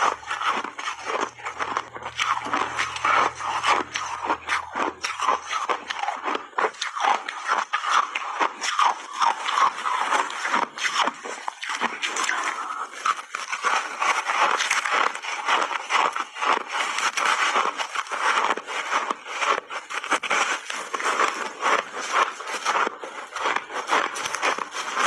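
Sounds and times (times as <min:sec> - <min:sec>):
frozen ice crunching while chewed: 0:00.0 - 0:25.0.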